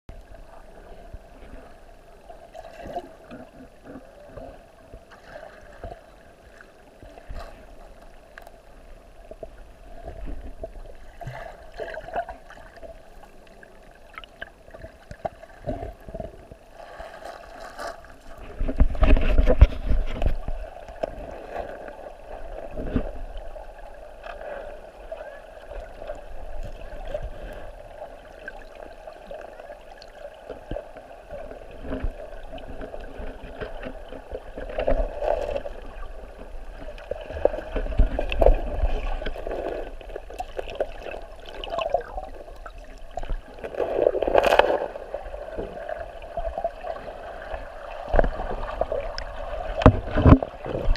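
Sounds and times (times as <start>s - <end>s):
muffled water sloshing: 0.1s - 50.9s.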